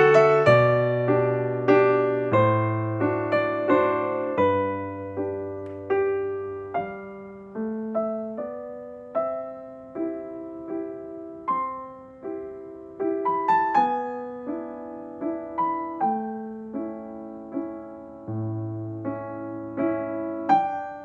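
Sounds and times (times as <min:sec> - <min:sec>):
slow gentle piano music: 0:00.0 - 0:21.0.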